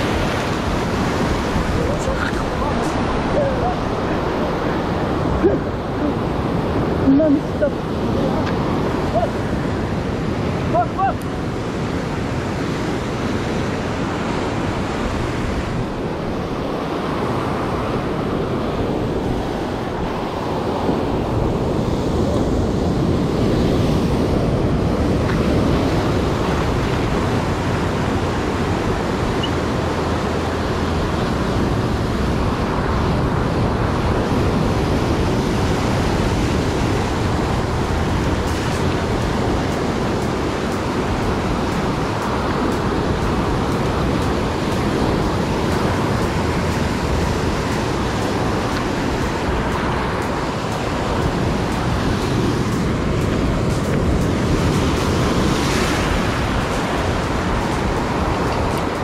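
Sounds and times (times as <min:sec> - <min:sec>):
surf breaking over rocks: 0:00.0 - 0:59.0
wind buffeting microphone: 0:00.0 - 0:59.0.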